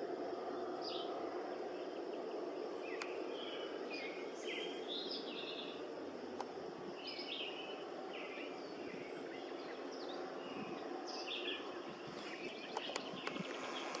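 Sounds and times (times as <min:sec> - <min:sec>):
steady outdoor rush: 0:00.0 - 0:14.0
birds chirping: 0:00.6 - 0:14.0.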